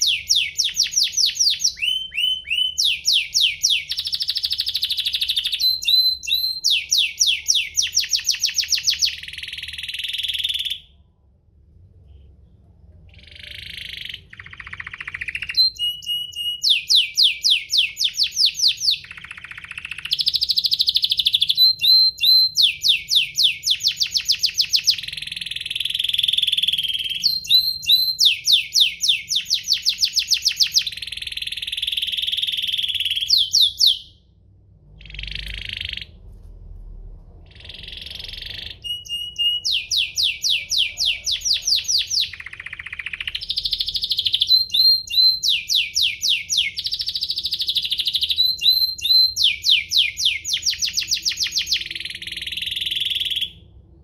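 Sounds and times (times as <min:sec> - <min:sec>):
canary singing: 0:00.0 - 0:11.0, 0:13.1 - 0:34.3, 0:35.0 - 0:36.3, 0:37.5 - 0:53.8.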